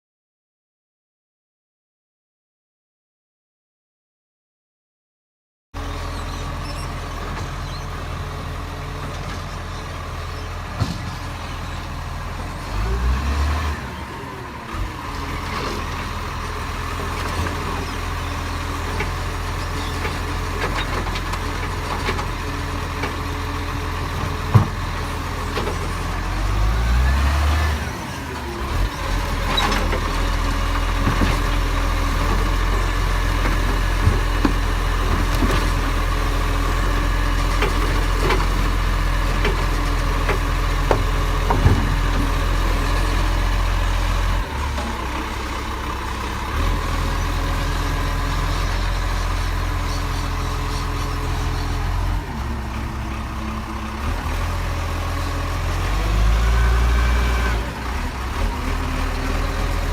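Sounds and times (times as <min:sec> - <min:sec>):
truck diesel engine revving: 0:07.6 - 0:59.9.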